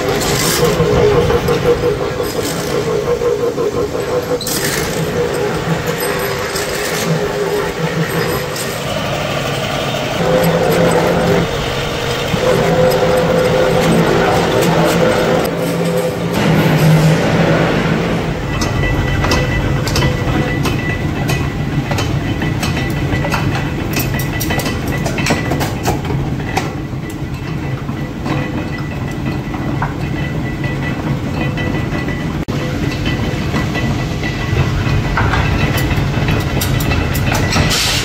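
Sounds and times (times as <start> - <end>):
steel rods clinking: 0.0 - 17.5, 18.3 - 38.0
power press metallic clanks: 0.0 - 38.0
workshop machinery humming: 0.0 - 38.0.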